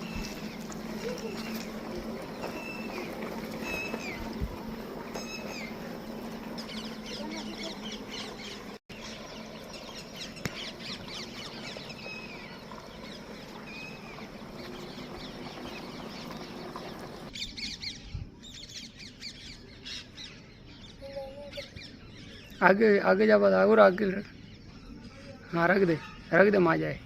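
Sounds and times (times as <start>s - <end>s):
birds chirping and squawking: 0.0s - 27.0s
outdoor background noise: 0.0s - 27.0s.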